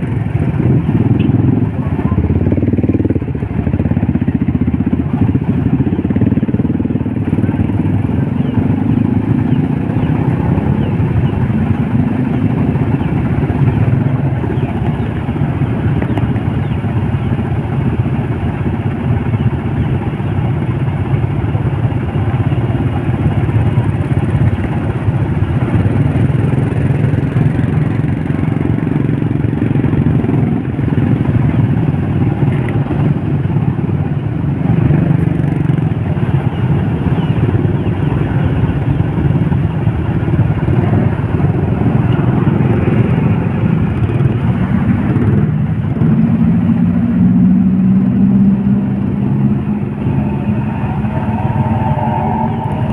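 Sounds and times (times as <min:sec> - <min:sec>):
motorcycle engine revving: 0:00.0 - 0:19.6, 0:21.8 - 0:52.9
traffic noise: 0:00.0 - 0:52.9.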